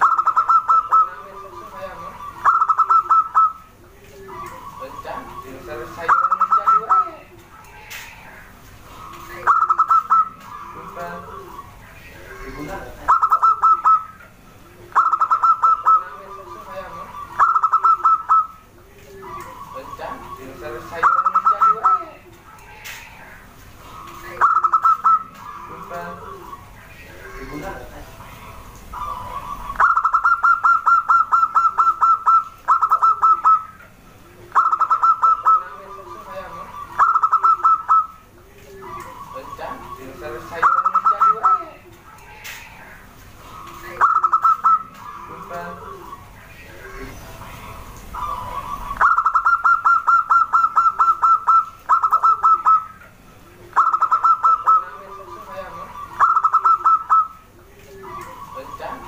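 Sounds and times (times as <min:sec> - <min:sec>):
dove staccato calls: 0:00.0 - 0:59.0
low cooing: 0:00.0 - 0:59.0.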